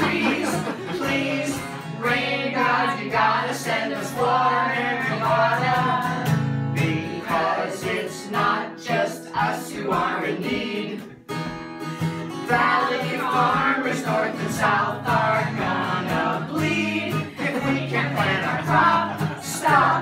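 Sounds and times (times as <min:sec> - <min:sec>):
group of voices singing: 0:00.0 - 0:11.2, 0:12.3 - 0:20.0.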